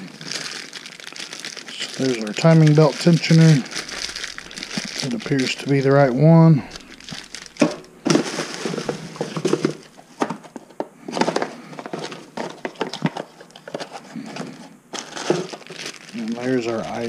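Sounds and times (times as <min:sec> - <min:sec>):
plastic packing crinkling: 0:00.0 - 0:17.0.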